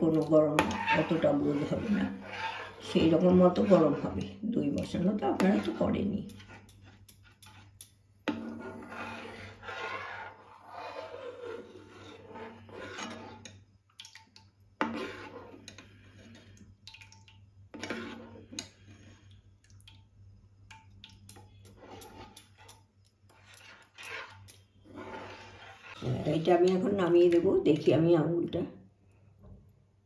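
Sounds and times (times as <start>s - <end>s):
ladle scraping milk in pan: 0.0s - 19.4s, 21.2s - 27.9s.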